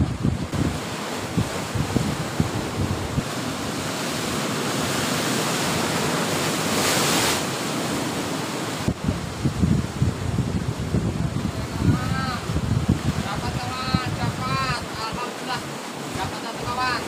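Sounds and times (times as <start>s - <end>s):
sea waves crashing on rocks: 0.0s - 17.0s.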